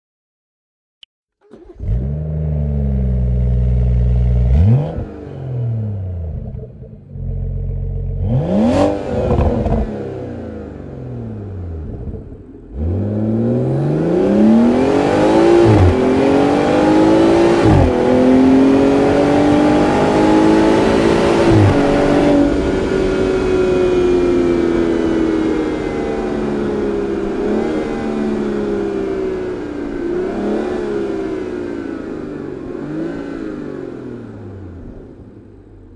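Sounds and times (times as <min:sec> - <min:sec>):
car engine revving and accelerating: 0:01.5 - 0:35.8.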